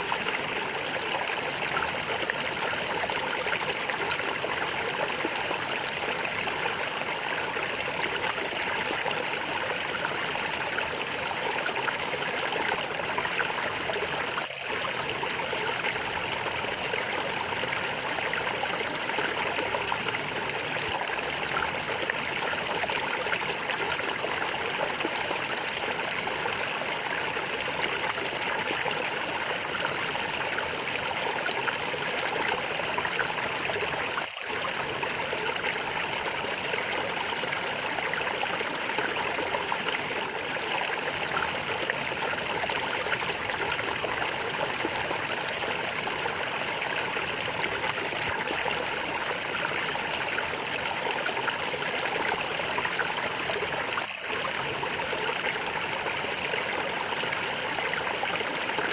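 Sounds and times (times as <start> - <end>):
stream water gurgling: 0.0 - 58.9.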